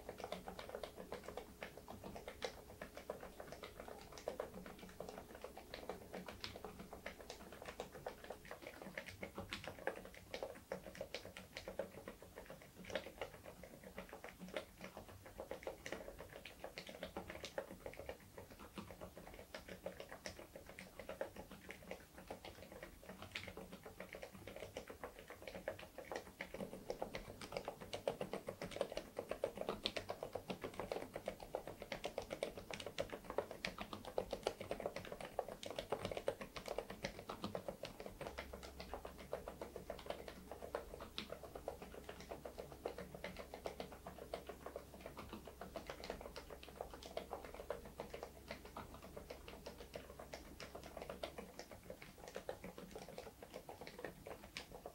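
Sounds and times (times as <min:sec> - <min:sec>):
damped mechanical keyboard typing: 0:00.0 - 0:54.9.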